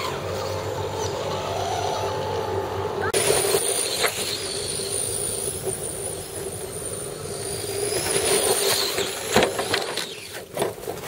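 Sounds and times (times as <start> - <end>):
electric motor whining: 0.0 - 10.5.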